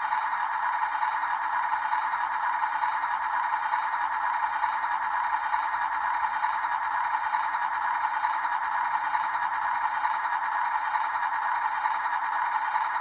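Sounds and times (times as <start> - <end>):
toy trucks whirring and whining: 0.0 - 13.0.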